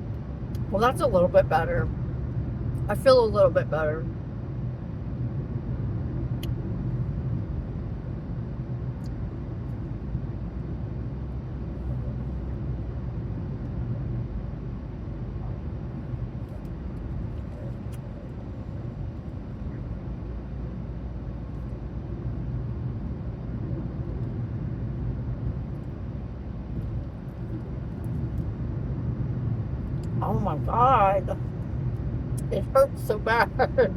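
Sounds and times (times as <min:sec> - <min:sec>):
car running rumble: 0:00.0 - 0:33.9.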